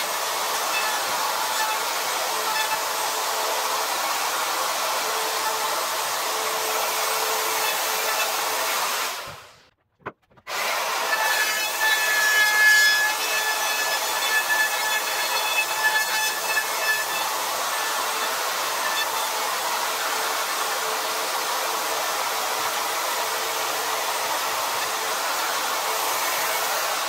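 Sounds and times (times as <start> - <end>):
router cutting with hissing whine: 0.0 - 9.4, 10.5 - 27.0.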